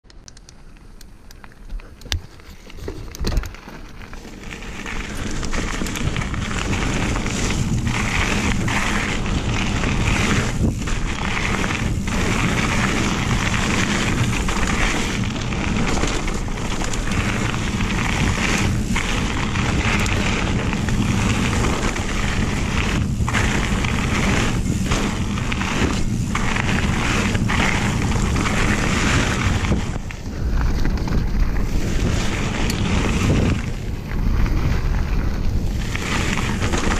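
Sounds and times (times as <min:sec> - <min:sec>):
bike tyres crunching on gravel: 0:00.2 - 0:36.9
wind buffeting microphone: 0:04.4 - 0:36.9.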